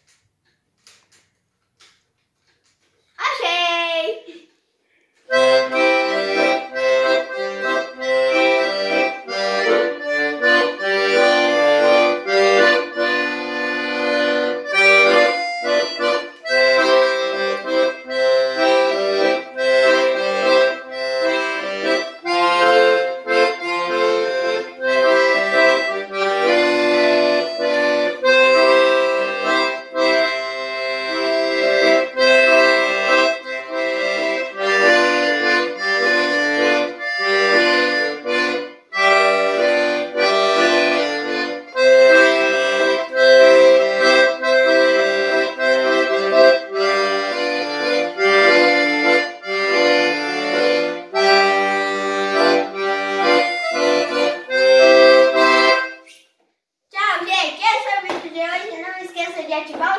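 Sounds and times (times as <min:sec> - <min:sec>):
accordion playing lively tune: 0:05.3 - 0:56.2.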